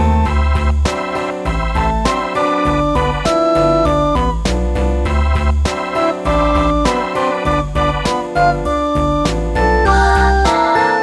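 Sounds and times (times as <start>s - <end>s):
electronic keyboard melody with beat: 0.0s - 11.0s.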